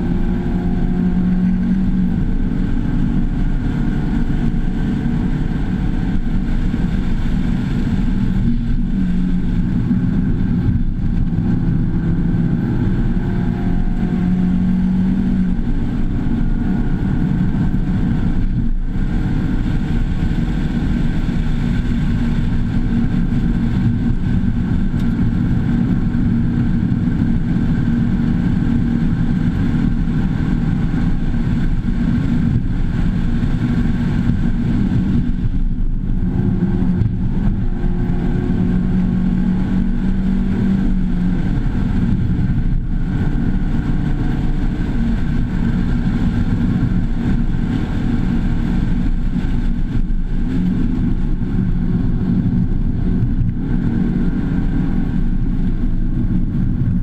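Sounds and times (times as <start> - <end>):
car engine running hard: 0.0 - 57.0
road and wind noise: 0.0 - 57.0.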